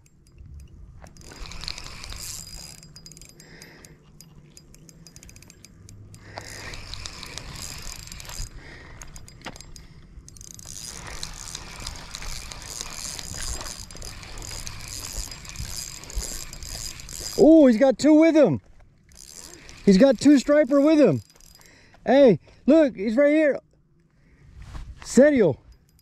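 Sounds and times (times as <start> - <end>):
fishing reel whirring and clicking: 0.0 - 21.8, 25.7 - 26.0.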